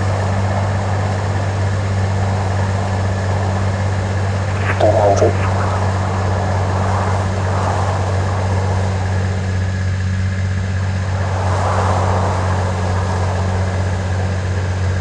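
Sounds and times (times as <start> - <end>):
airliner engine drone: 0.2 - 15.0.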